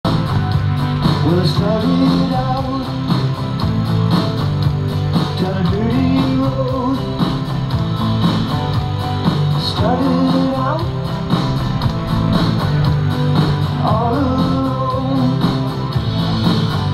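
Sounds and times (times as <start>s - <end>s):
rock music with guitar: 0.0s - 16.9s.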